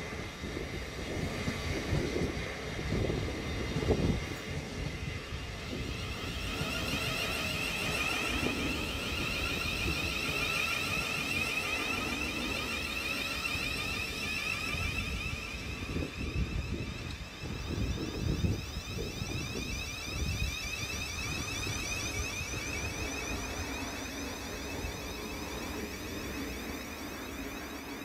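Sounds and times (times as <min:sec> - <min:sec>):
wind hitting microphone: 0:00.0 - 0:27.9
electric train motor whine: 0:00.0 - 0:28.0
train wheels rumbling: 0:00.0 - 0:28.0.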